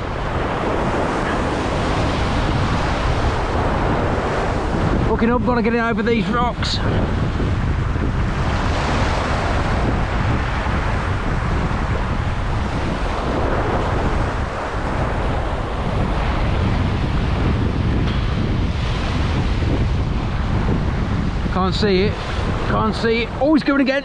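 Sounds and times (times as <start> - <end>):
sea surf washing over rocks: 0.0 - 24.0
wind buffeting microphone: 0.0 - 24.0.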